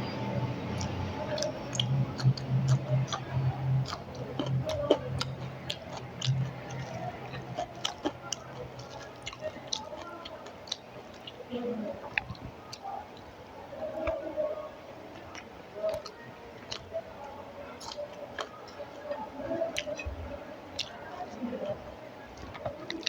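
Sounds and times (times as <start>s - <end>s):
close chewing with mouth clicks: 0.1s - 23.0s.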